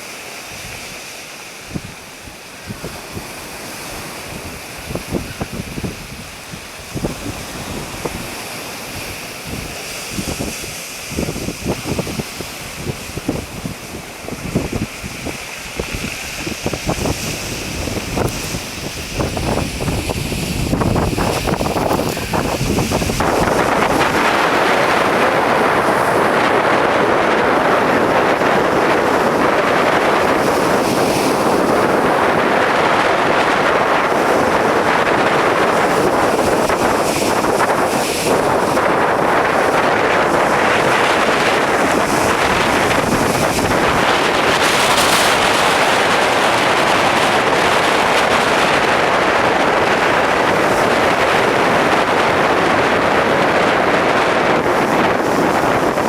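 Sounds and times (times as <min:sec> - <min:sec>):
strong wind blowing: 0:00.0 - 0:56.0.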